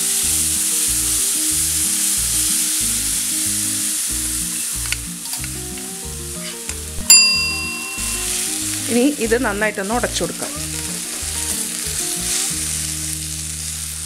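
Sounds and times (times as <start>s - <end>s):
oil sizzling: 0.0s - 14.0s.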